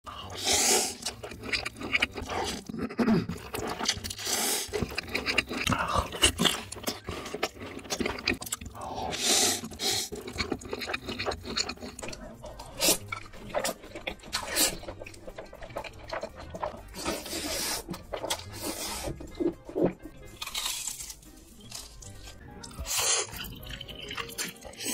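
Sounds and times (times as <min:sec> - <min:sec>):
noodles slurped: 0:00.1 - 0:19.2, 0:22.6 - 0:24.9
wet chewing: 0:00.1 - 0:24.9.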